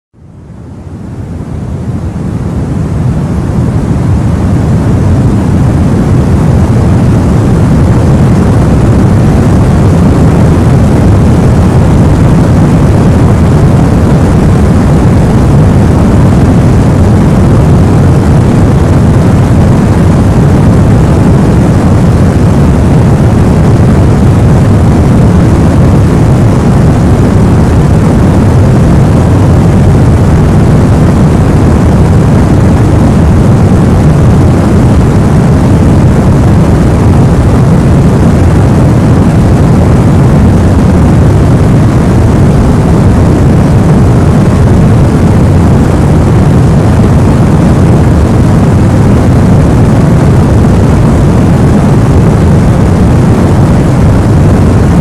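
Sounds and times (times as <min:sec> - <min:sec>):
white noise hiss: 0:00.6 - 0:55.0.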